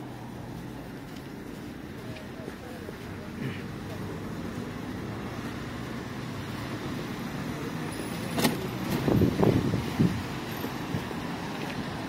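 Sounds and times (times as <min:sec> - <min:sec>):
cars passing on wet road: 0:00.0 - 0:12.0.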